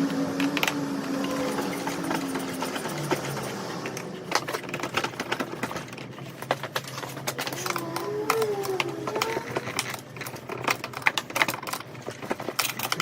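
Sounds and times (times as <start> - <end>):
mechanical clicking and clattering: 0.4 - 13.0.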